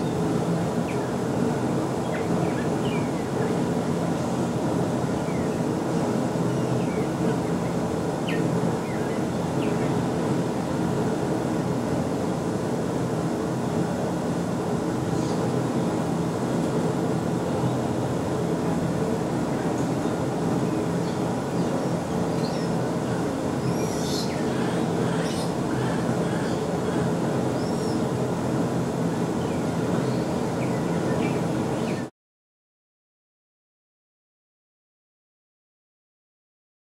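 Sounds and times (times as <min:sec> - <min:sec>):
low engine-like hum: 0:00.0 - 0:32.1.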